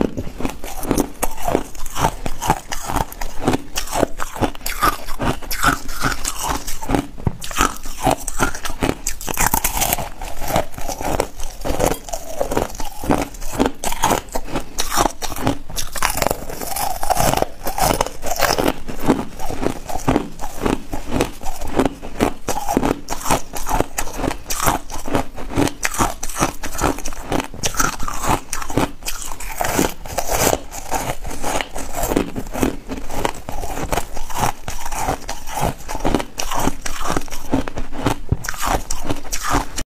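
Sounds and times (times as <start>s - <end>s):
foam ice crunching while chewed: 0.0s - 39.8s.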